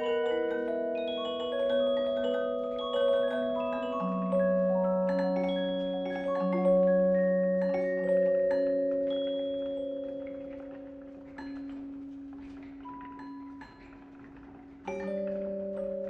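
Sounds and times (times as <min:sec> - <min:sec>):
slow mallet percussion music: 0:00.0 - 0:16.0.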